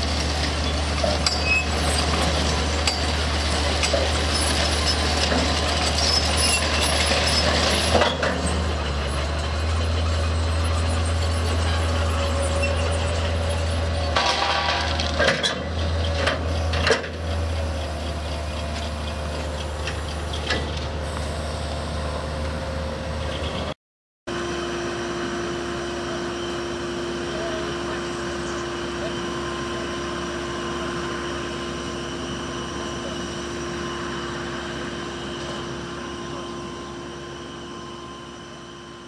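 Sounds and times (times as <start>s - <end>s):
engine drone: 0.0s - 39.0s.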